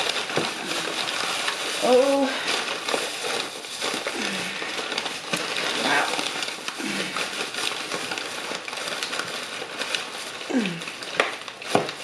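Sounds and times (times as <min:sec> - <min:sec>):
takeout bag rustling and crinkling: 0:00.0 - 0:12.0.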